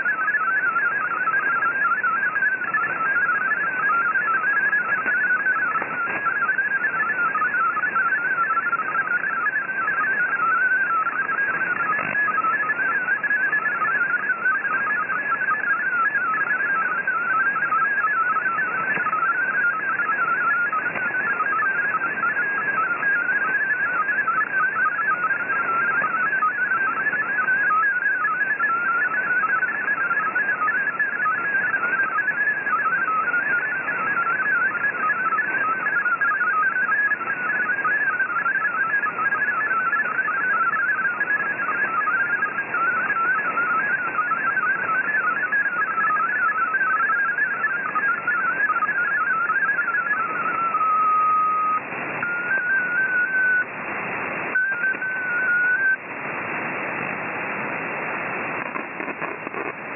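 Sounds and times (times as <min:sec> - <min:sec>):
static hiss: 0:00.0 - 0:59.9.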